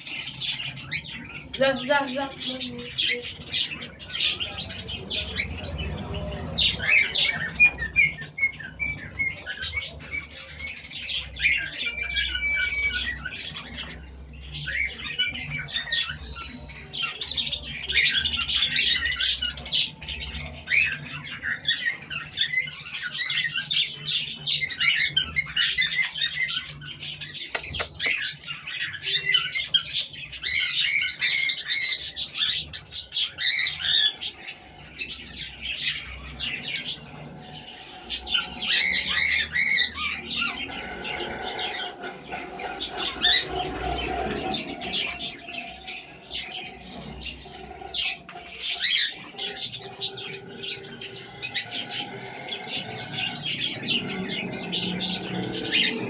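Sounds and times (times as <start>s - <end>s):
small birds chirping and squawking: 0.0s - 56.0s.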